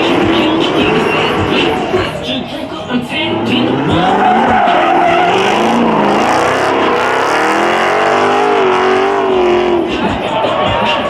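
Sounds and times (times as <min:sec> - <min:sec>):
tires spinning hiss: 0:00.0 - 0:10.0
car engine revving high: 0:00.0 - 0:10.2.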